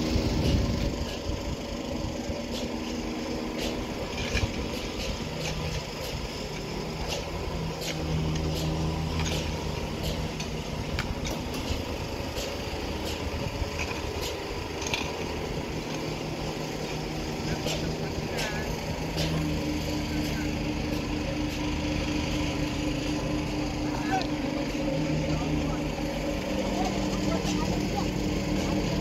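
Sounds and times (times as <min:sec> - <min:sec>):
heavy machinery engine running: 0:00.0 - 0:29.0.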